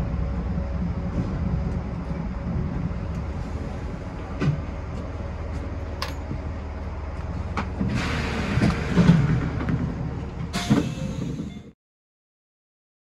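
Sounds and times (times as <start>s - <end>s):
train equipment humming: 0.0s - 11.7s.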